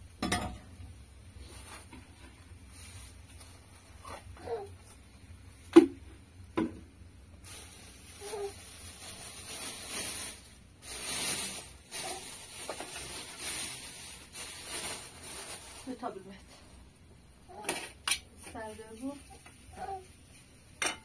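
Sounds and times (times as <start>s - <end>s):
plastic bag rustling: 1.4s - 5.7s, 6.8s - 20.8s.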